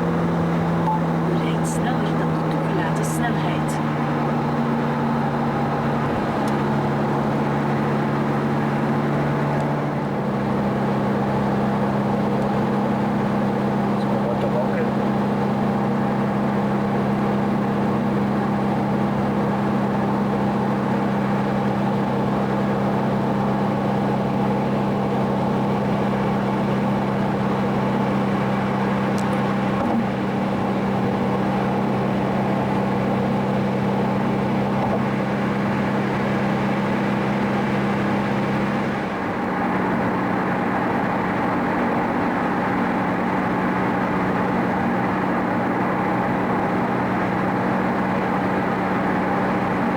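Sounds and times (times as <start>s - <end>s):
car engine cruising: 0.0s - 49.9s
road and tyre noise: 0.0s - 49.9s.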